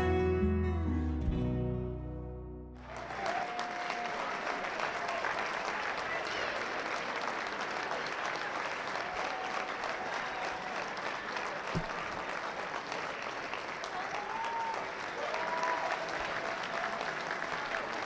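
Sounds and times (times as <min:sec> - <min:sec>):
audience applause: 0:02.8 - 0:18.0.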